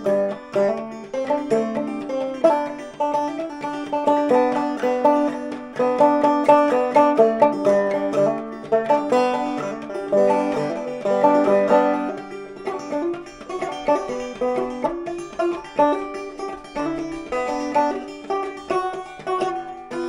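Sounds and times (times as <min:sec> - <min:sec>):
banjo plucked melody: 0:00.0 - 0:20.0.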